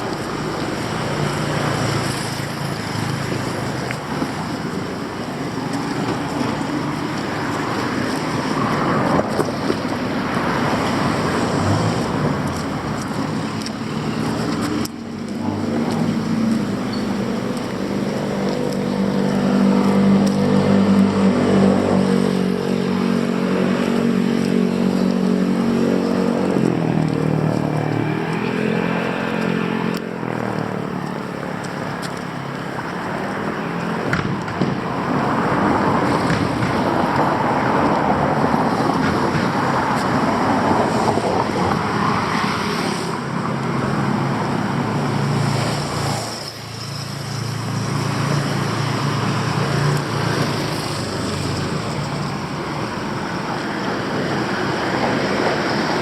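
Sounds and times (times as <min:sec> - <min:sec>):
passing traffic rushing: 0:00.0 - 0:56.0
vehicle engine humming: 0:00.0 - 0:56.0.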